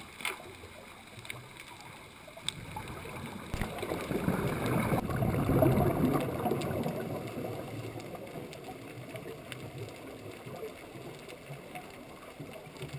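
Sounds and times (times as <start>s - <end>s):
faint clicks: 0.0s - 12.9s
underwater bubbles gurgling: 0.0s - 12.9s.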